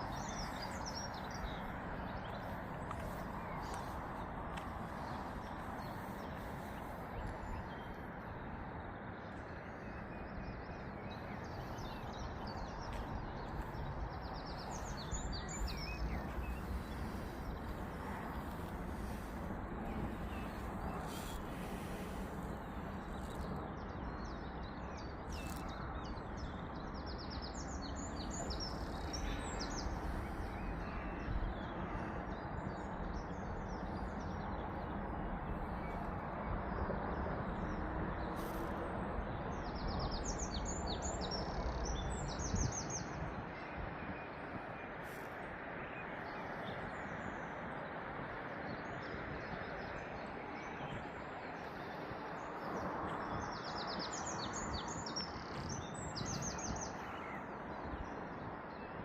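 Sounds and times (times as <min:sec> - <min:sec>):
low outdoor rush: 0:00.0 - 0:59.0
small birds chirping and trilling: 0:00.0 - 0:59.0.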